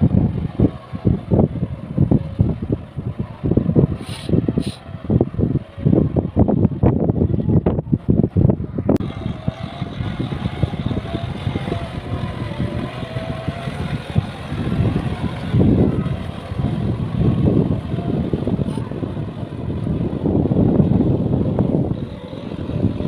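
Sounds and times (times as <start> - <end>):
tractor diesel engine running: 0.0 - 23.0
wind buffeting microphone: 0.0 - 23.0.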